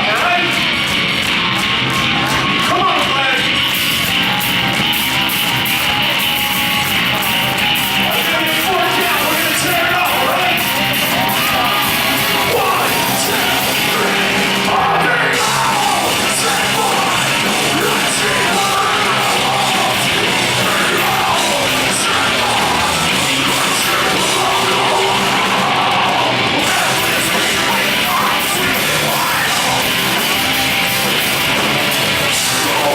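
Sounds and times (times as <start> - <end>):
heavy rock band playing: 0.0 - 32.9
singer yelling and screaming: 6.2 - 32.9.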